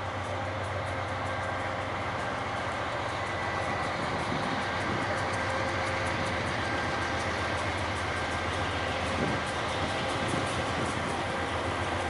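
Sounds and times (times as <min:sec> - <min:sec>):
diesel locomotive engine rumble: 0:00.0 - 0:12.0
train wheels on rails: 0:00.0 - 0:12.0.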